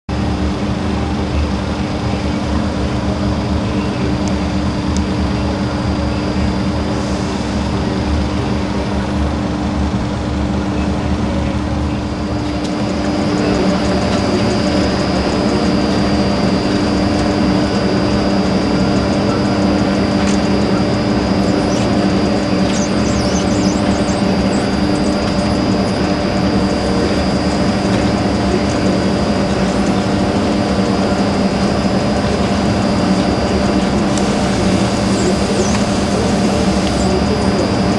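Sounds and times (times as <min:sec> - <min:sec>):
constant hum: 0:00.1 - 0:37.9
factory machinery running: 0:00.1 - 0:37.9.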